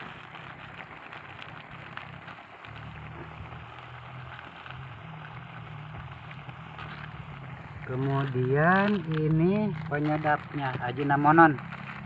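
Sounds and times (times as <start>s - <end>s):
mushrooms sizzling in a wok: 0.0s - 12.0s.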